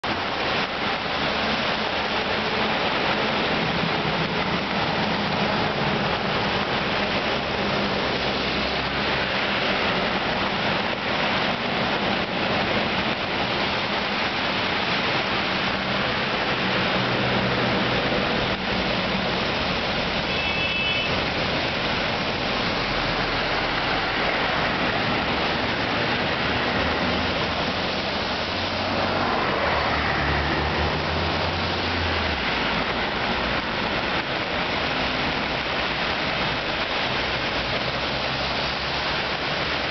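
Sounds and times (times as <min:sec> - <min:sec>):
heavy rain: 0:00.0 - 0:39.9
vehicles driving through floodwater: 0:00.0 - 0:39.9.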